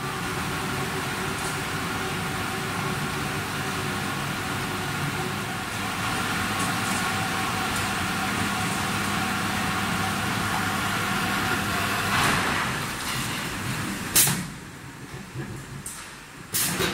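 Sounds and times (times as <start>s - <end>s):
filling machine mechanical hum: 0.0s - 16.9s.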